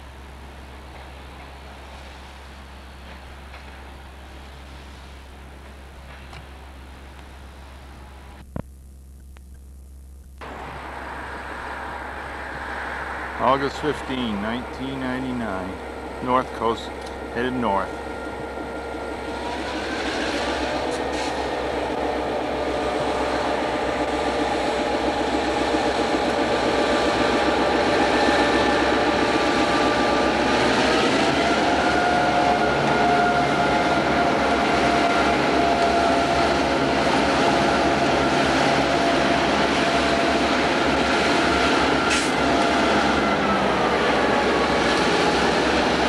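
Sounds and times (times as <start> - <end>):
diesel locomotive engines: 0.0 - 8.4, 10.4 - 46.0.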